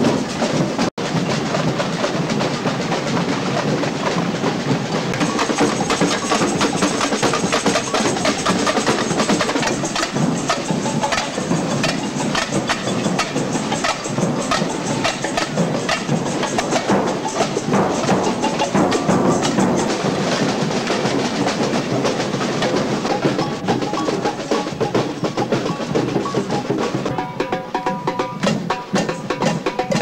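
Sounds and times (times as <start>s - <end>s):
samba drum band: 0.0s - 30.0s.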